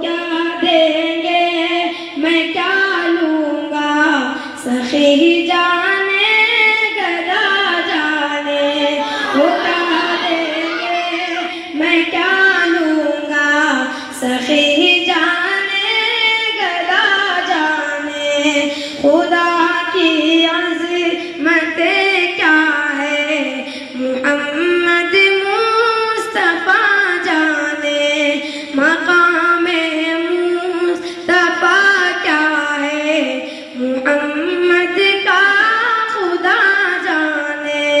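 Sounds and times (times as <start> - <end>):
boy reciting in high voice: 0.0 - 38.0.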